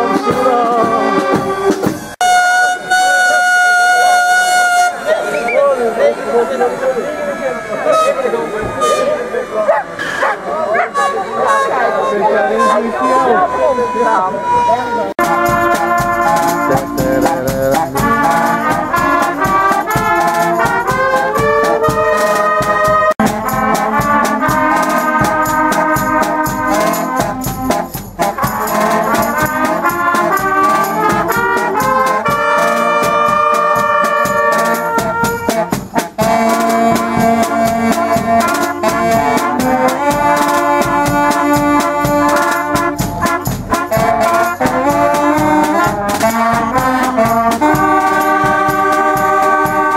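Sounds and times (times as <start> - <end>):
brass band playing: 0.0 - 49.9.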